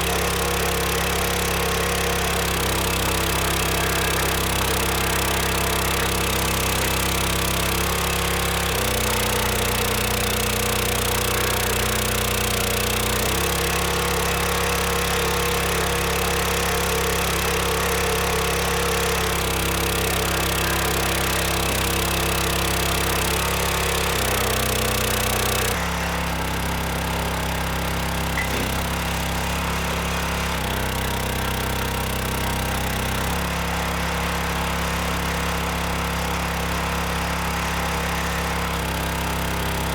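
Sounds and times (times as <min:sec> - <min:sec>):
gas engine running: 0:00.0 - 0:39.9.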